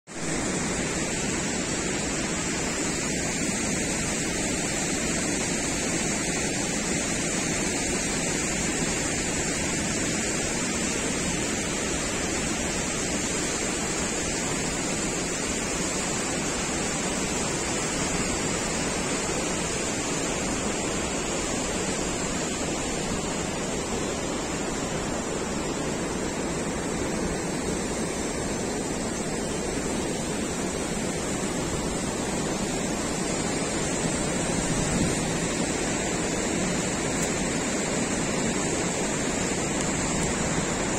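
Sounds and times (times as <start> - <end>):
river rushing over rocks: 0.1 - 40.9.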